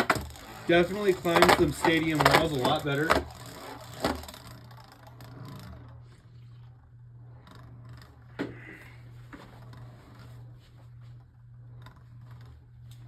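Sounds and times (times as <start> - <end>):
spinning top whirring and scraping: 0.0 - 13.0.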